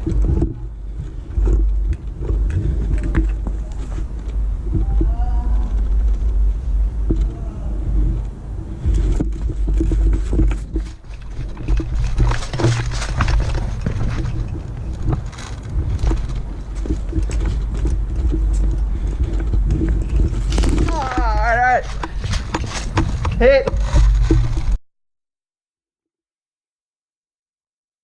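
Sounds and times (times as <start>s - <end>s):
microphone handling noise: 0.0s - 24.8s
wind rumble on microphone: 0.0s - 24.8s.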